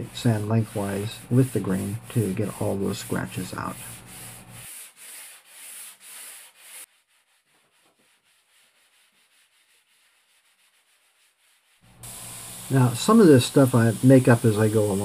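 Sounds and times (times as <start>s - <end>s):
sanding block rubbing on wood: 0.0s - 15.0s.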